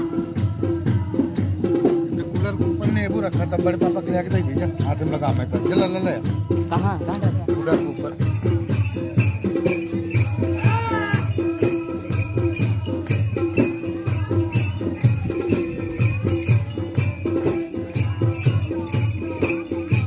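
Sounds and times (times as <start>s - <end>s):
folk music with drumbeat: 0.0s - 20.0s
jingling rattling percussion: 0.0s - 20.0s.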